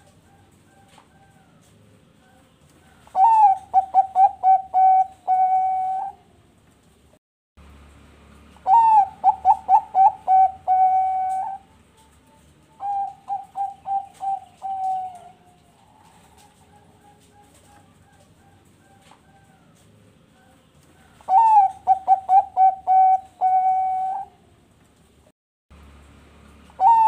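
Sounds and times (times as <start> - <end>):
dove cooing: 0.0 - 6.5, 8.6 - 24.6, 26.7 - 27.0.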